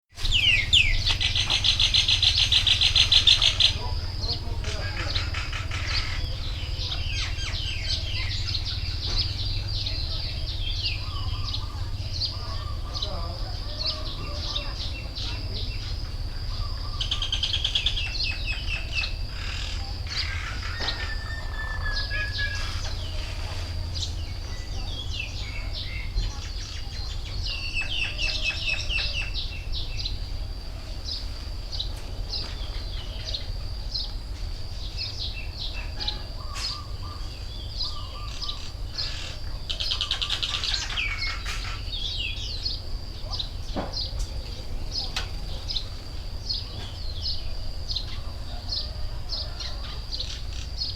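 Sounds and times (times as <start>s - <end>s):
wild birds chirping and trilling: 0.1s - 50.9s.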